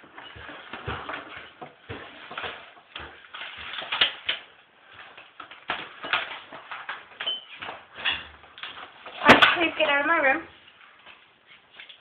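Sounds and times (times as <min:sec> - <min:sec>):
clicks taps and rustles of handling: 0:00.0 - 0:09.9.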